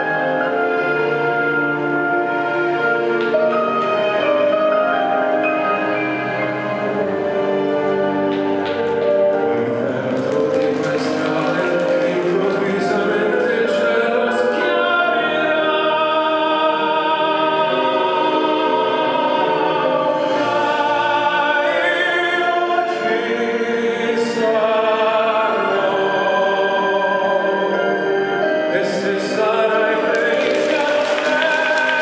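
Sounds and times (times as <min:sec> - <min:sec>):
operatic singing: 0:00.0 - 0:32.0
orchestral accompaniment: 0:00.0 - 0:32.0.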